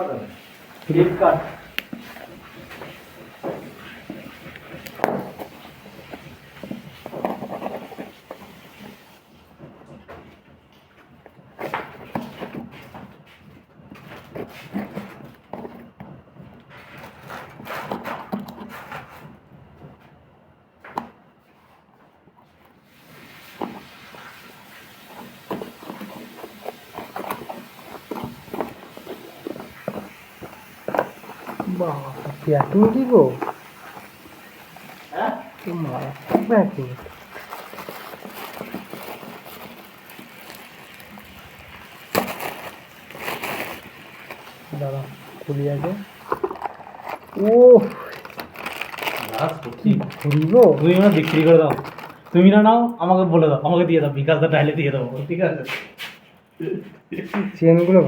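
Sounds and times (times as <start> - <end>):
handling knocks and rustles: 0.2 - 52.6.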